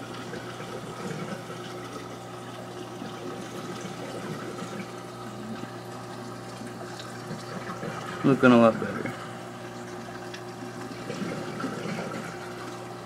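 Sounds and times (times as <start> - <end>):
aquarium pump hum: 0.0 - 13.0
running water: 0.0 - 13.0.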